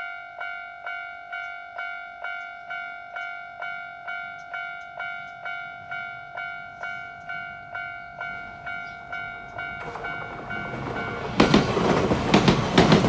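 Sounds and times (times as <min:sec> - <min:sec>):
level-crossing warning bell ringing: 0:00.0 - 0:13.0
train low rumble: 0:01.2 - 0:13.0.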